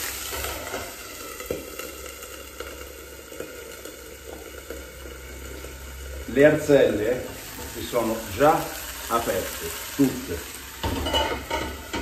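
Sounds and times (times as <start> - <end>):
clams sizzling in a covered pan: 0.0 - 12.0.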